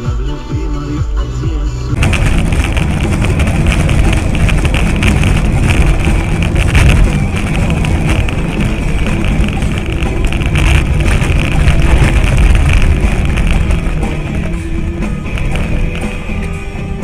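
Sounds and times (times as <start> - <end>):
vehicle engine and road rumble: 0.7 - 17.0
electronic music: 1.4 - 17.0.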